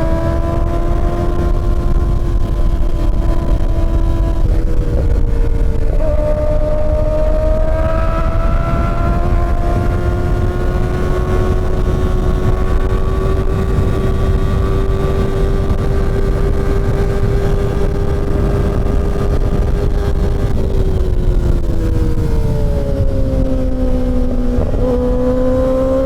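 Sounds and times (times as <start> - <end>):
low rush of wind: 0.0 - 26.0
motorcycle engine at high revs: 0.0 - 26.0.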